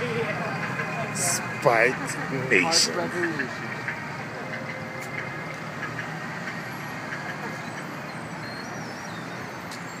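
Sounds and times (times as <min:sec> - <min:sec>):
traffic engine and tyre noise: 0:00.0 - 0:10.0.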